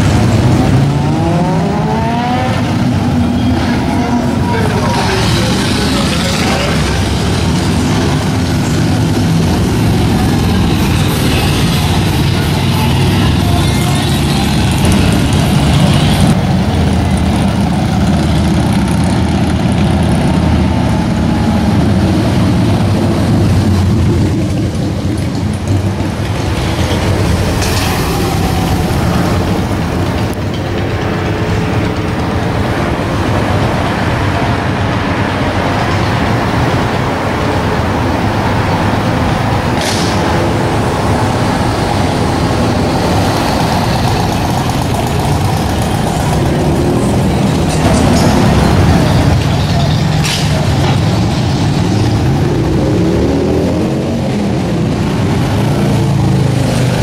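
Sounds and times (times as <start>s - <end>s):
car traffic: 0.0s - 57.0s
motorcycles riding past: 0.0s - 57.0s.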